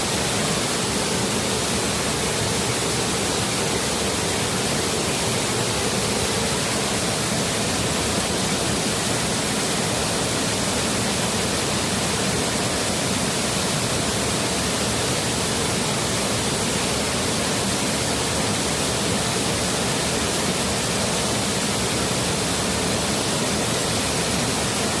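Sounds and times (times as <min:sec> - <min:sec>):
stream and waterfall rushing: 0:00.0 - 0:25.0.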